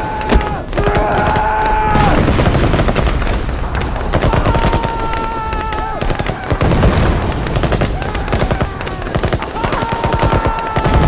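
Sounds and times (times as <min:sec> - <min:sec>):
machine-gun and rifle fire: 0:00.0 - 0:11.0
deep booms: 0:00.1 - 0:09.2.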